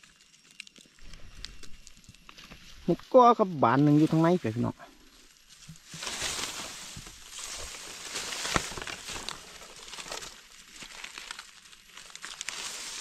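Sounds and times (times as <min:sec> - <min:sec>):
grass and dry leaves rustling: 0:00.0 - 0:13.0.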